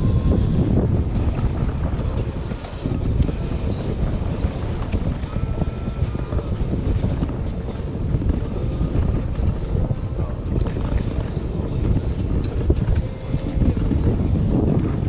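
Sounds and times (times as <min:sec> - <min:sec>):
water beneath boat: 0:00.0 - 0:15.0
wind buffeting microphone: 0:00.0 - 0:15.0.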